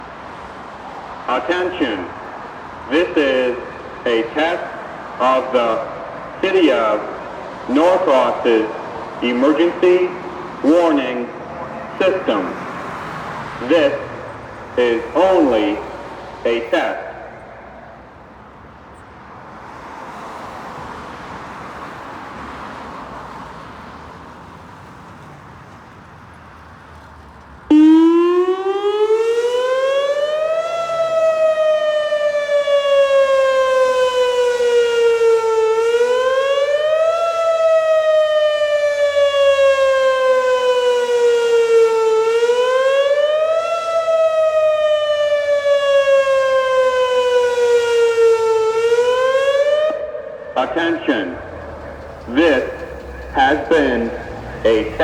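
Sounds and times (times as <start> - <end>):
tornado siren wailing: 1.3 - 18.2, 27.7 - 55.0.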